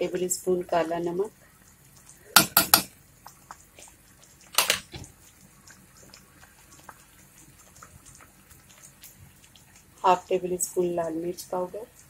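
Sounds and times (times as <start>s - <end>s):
sauce simmering with bubbles popping: 0.0s - 12.0s.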